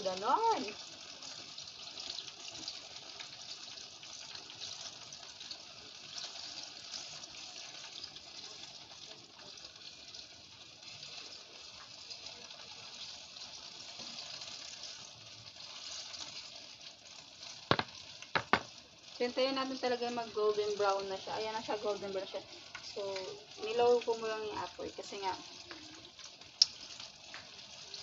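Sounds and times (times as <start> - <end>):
fritters sizzling in oil: 0.0 - 28.0.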